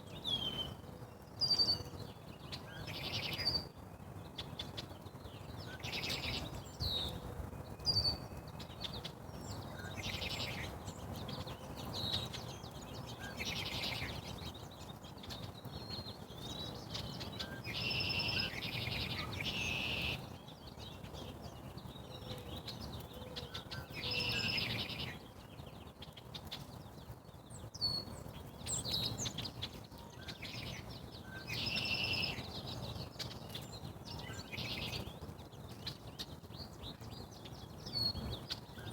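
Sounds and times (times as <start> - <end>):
songbirds singing and calling: 0.0 - 38.9.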